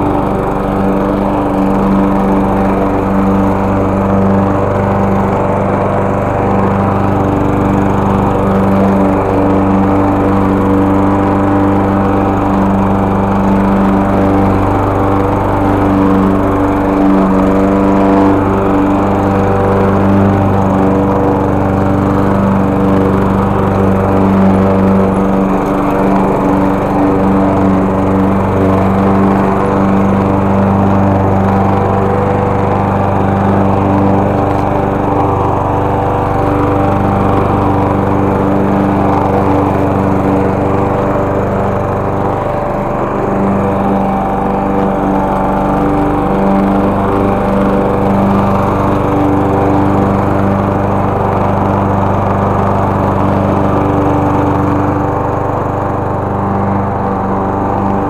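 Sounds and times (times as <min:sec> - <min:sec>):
push mower engine running: 0:00.0 - 0:58.0.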